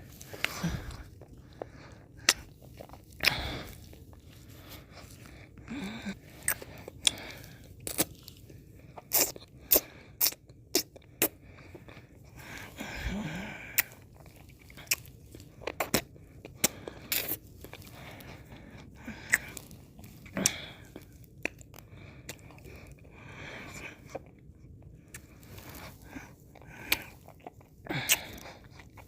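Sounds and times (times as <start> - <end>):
mouth eating ice cream: 0.0 - 29.0.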